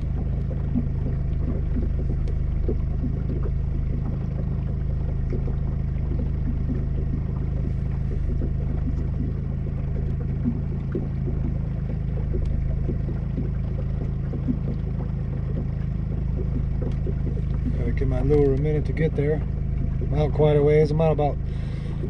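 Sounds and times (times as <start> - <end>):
small irregular knocks: 0.0 - 18.9
boat motor humming: 0.0 - 22.0.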